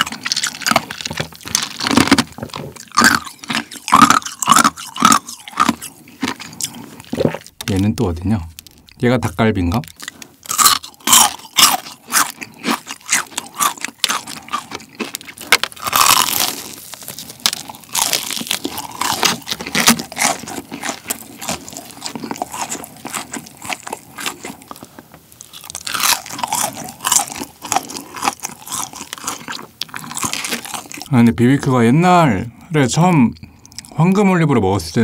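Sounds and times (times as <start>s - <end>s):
crunchy chewing of fried chicken: 0.0s - 31.2s, 33.4s - 34.2s.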